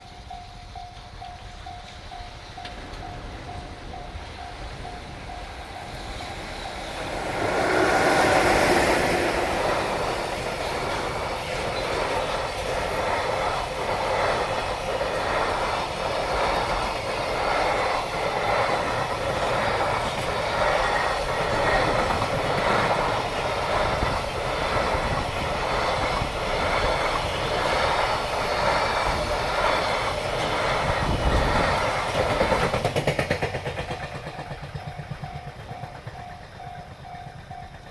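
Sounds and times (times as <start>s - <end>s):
electric locomotive passing: 0.0s - 37.9s
wheels clacking over rail joints: 0.2s - 37.9s.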